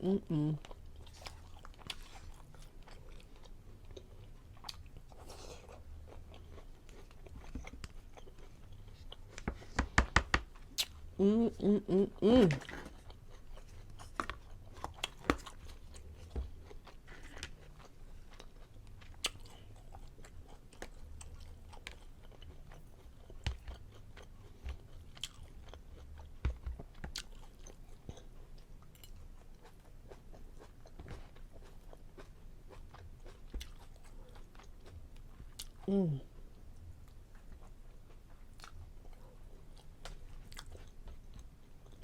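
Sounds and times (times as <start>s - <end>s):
person chewing food: 0.4s - 11.2s, 12.1s - 42.0s.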